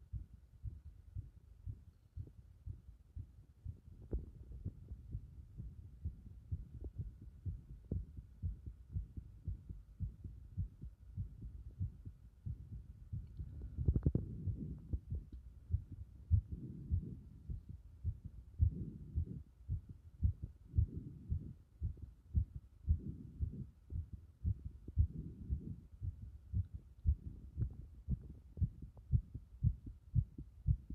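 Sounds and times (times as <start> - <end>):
heartbeat thumps: 0.0 - 30.9.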